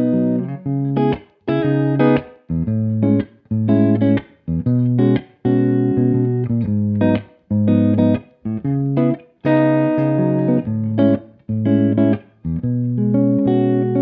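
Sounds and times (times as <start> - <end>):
solo jazz guitar: 0.0 - 14.0.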